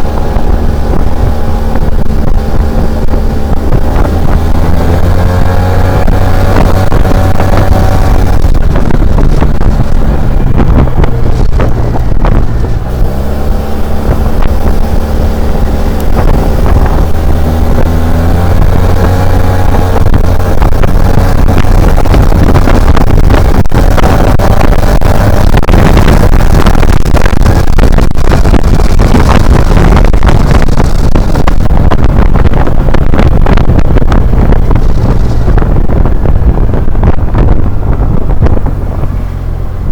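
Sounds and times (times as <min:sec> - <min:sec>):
scooter engine running: 0:00.0 - 0:39.9
wind buffeting microphone: 0:00.0 - 0:39.9.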